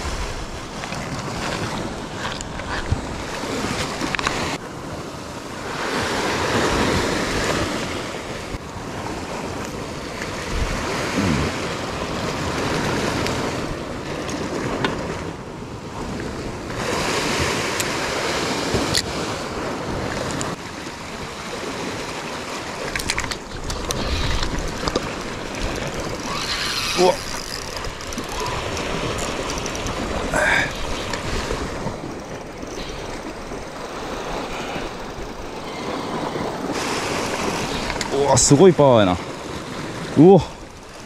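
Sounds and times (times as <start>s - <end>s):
rough surf breaking: 0.0s - 41.0s
strong wind: 0.0s - 41.0s.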